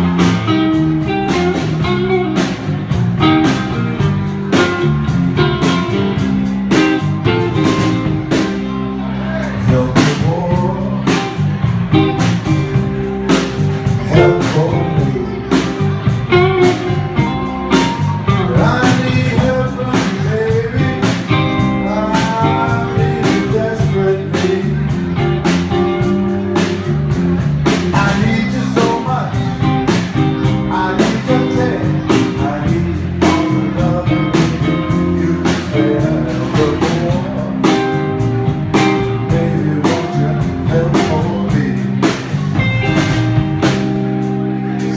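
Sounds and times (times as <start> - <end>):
drum kit beat: 0.0 - 44.9
electric guitar: 0.0 - 44.9
man singing: 5.6 - 43.8, 44.7 - 44.9.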